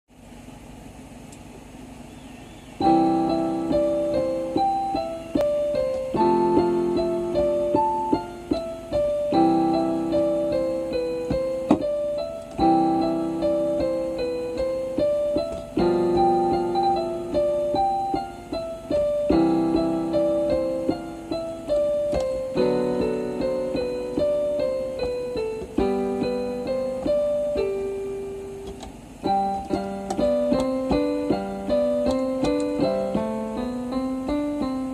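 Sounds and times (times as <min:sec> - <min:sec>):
electronic keyboard piano melody: 0:02.7 - 0:34.9.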